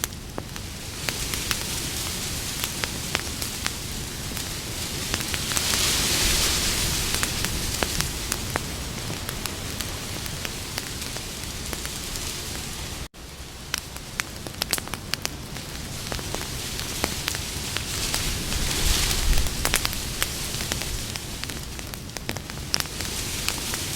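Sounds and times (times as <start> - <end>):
campfire crackling and popping: 0.0 - 23.9.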